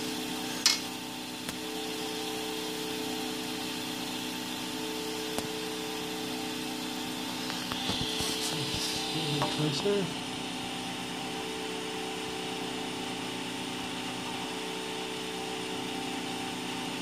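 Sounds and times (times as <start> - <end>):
printer fan and motor hum: 0.0 - 17.0.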